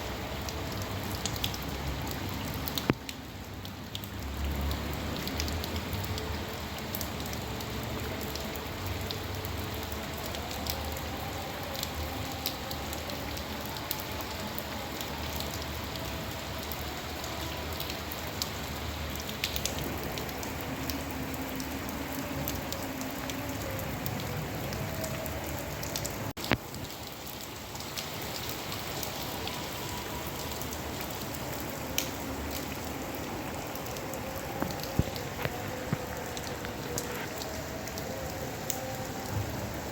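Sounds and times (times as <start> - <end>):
raindrops ticking sharply: 0.0 - 39.9
steady rain falling: 0.0 - 39.9.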